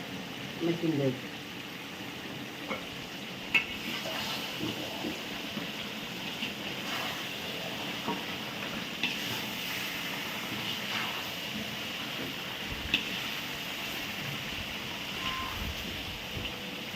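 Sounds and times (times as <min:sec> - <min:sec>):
chicken sizzling in oil: 0:00.0 - 0:16.9.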